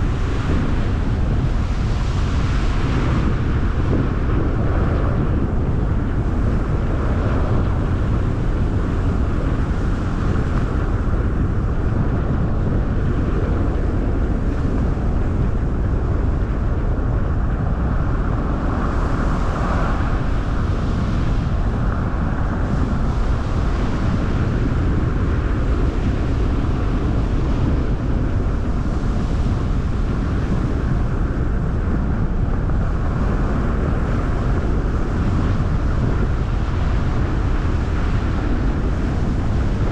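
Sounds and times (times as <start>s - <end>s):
wind rushing past: 0.0s - 39.9s.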